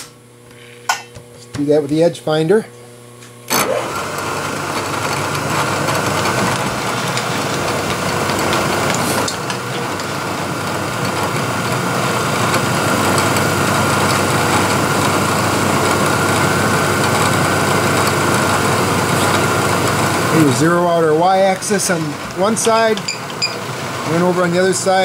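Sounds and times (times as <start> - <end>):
milling machine spindle running: 1.5 - 25.0.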